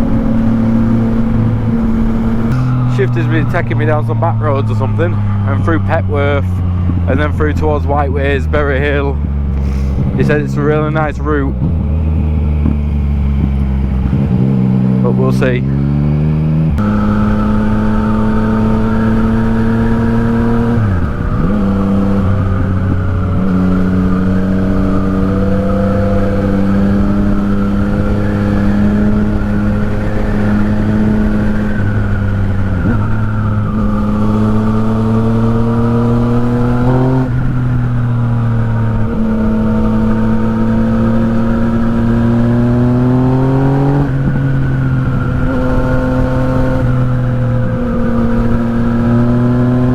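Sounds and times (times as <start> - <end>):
motorcycle engine while riding: 0.0 - 49.9.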